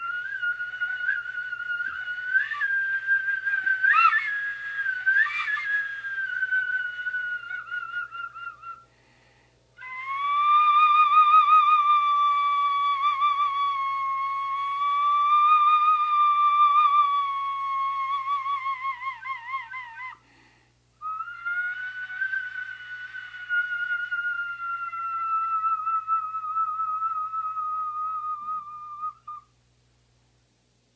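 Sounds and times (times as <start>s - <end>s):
stone flute long notes: 0.0s - 8.8s, 9.8s - 20.2s, 21.0s - 29.4s.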